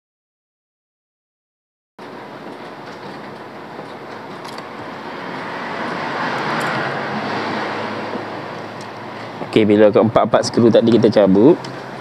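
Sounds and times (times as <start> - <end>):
steady rushing noise: 2.0 - 12.0.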